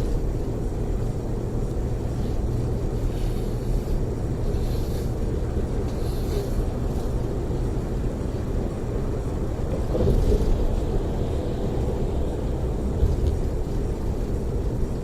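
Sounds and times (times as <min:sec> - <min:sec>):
coach engine and tyres rumble: 0:00.0 - 0:15.0.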